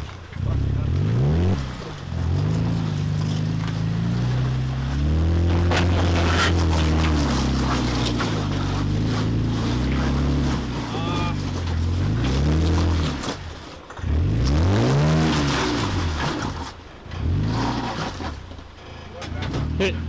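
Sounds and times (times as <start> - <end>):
truck engine revving: 0.0 - 18.5.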